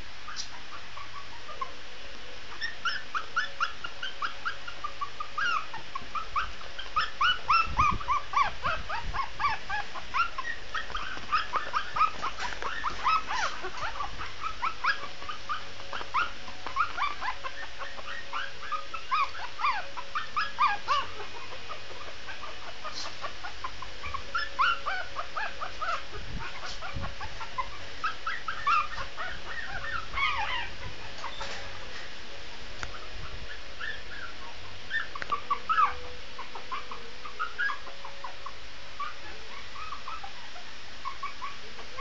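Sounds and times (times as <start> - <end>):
puppy whimpering and yipping: 0.3 - 1.8, 2.5 - 32.0, 32.9 - 42.0.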